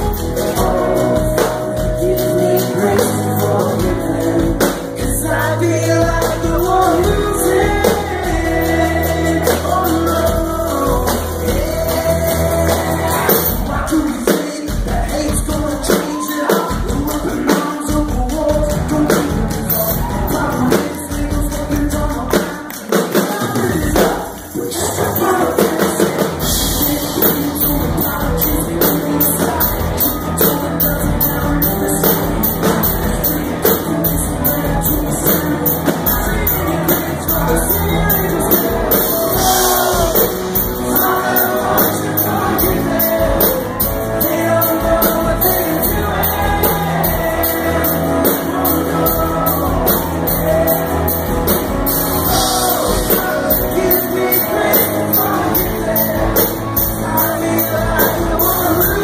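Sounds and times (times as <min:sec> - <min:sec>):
live rock band playing: 0:00.0 - 0:59.0
man singing: 0:00.0 - 0:59.0
steady drum beat: 0:00.0 - 0:59.0.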